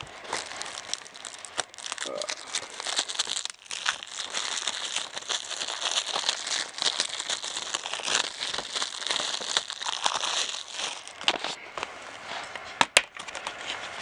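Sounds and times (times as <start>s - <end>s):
plastic wrap crinkling: 0.0s - 11.6s.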